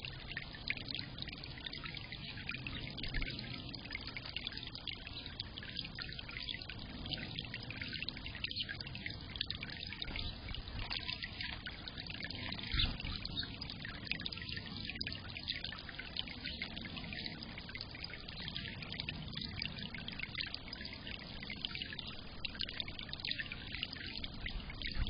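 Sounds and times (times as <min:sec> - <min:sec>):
water trickling into bird bath: 0:00.0 - 0:25.0.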